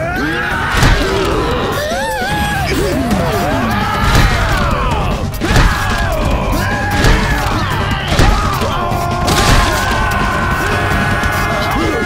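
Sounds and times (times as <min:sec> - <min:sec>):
orchestral action music: 0:00.0 - 0:12.0.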